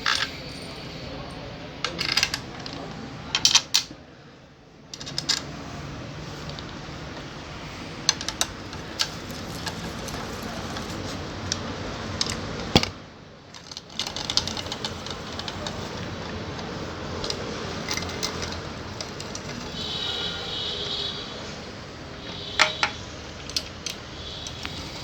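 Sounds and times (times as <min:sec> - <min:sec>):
background noise: 0:00.0 - 0:25.0.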